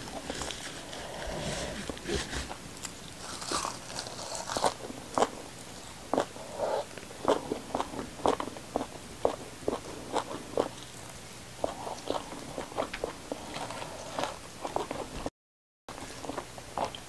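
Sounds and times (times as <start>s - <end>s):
chewing crisp herb leaves: 0.0s - 11.0s, 11.6s - 15.1s.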